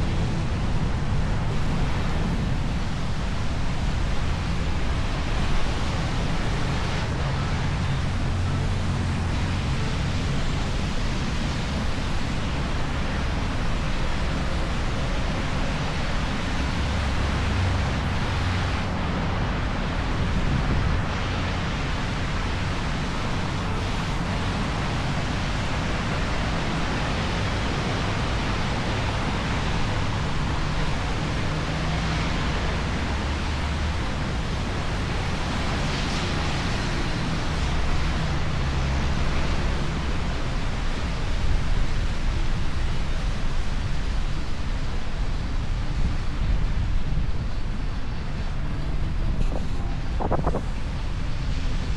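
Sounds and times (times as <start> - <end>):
wind rushing over microphone: 0.0 - 51.9.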